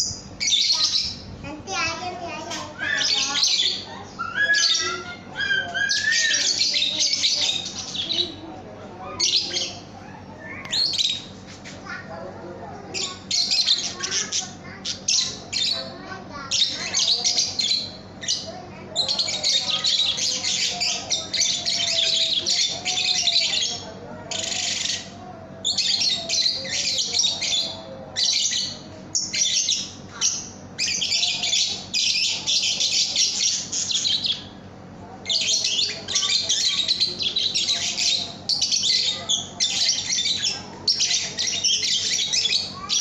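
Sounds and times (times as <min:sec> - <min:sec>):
lovebirds chattering: 0:00.0 - 0:43.0.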